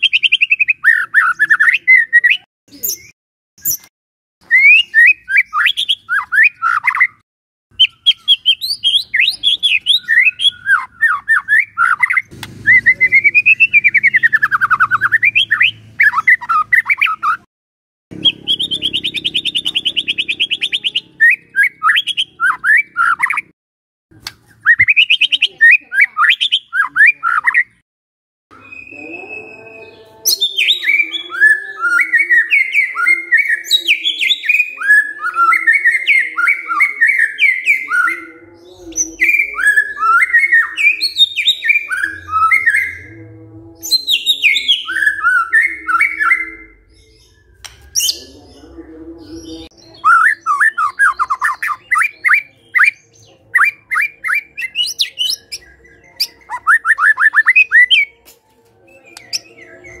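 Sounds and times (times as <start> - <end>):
songbird singing whistles: 0.0 - 17.4, 18.2 - 23.5, 24.5 - 27.8, 28.5 - 38.2, 39.1 - 43.1, 43.8 - 48.2, 49.8 - 58.2.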